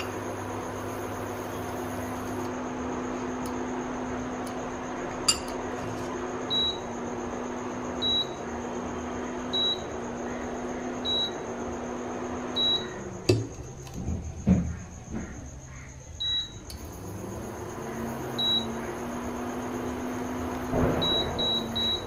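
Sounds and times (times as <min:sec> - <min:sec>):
induction cooktop humming: 0:00.0 - 0:22.0.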